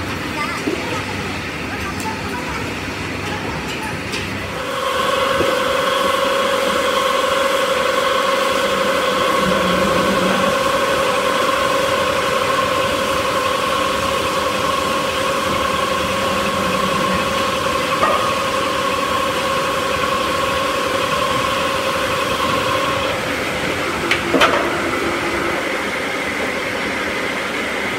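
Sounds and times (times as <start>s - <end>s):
mechanical hum: 0.0s - 27.9s
electric motor whine: 4.6s - 27.9s.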